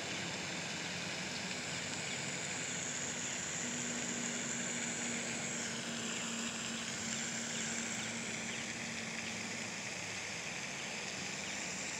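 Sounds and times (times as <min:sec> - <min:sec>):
constant high hiss: 0:00.0 - 0:11.9.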